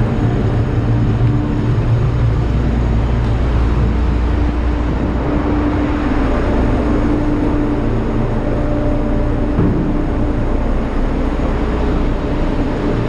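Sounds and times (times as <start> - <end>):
ship machinery drone: 0.0 - 13.0.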